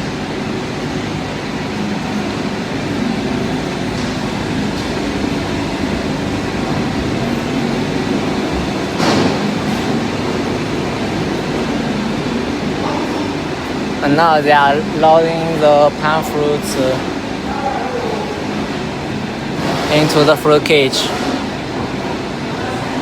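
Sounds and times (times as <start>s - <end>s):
machinery droning: 0.0s - 23.0s.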